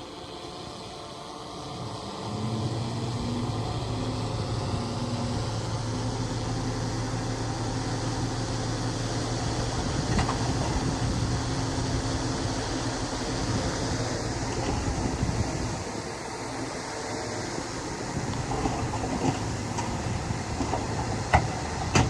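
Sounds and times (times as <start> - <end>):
bulldozer engine humming: 0.0 - 22.0.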